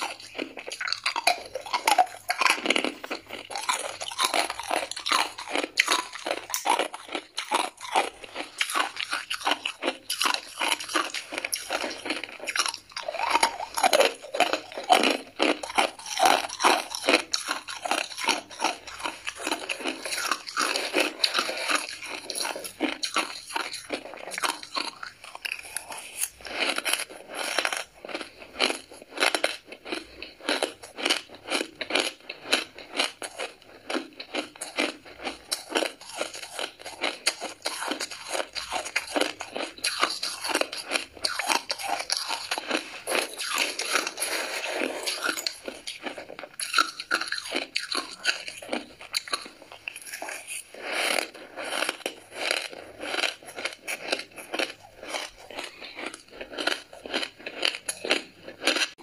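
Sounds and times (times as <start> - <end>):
person crunching ice: 0.0 - 59.0.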